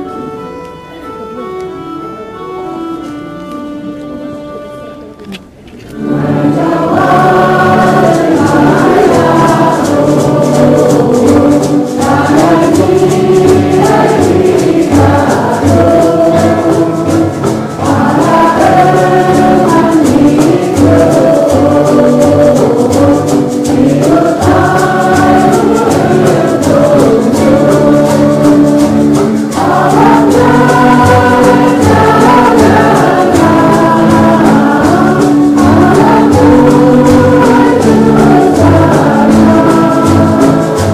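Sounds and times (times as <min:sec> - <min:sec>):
choir singing over a beat: 0:05.9 - 0:40.9.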